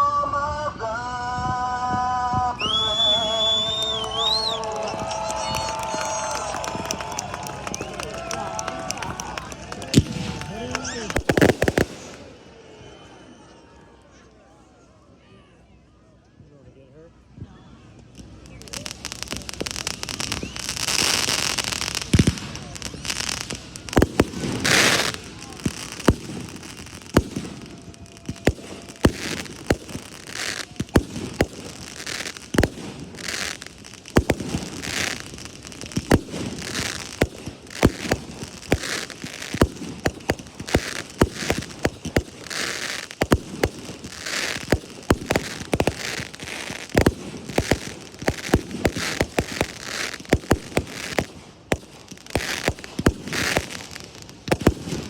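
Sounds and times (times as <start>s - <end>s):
fireworks bangs: 0.0s - 13.1s, 17.8s - 55.0s
fireworks hissing: 2.4s - 12.5s, 18.0s - 55.0s.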